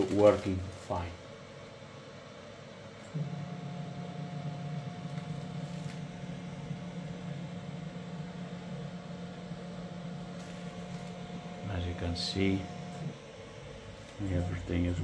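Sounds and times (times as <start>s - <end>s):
stepper motor hum: 2.8s - 15.0s.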